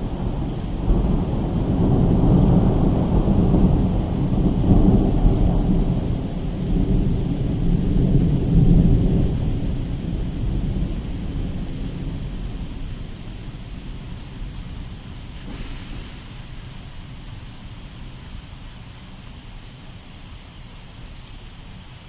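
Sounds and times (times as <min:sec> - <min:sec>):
rolling thunder: 0:00.0 - 0:19.0
rain falling: 0:00.0 - 0:22.0.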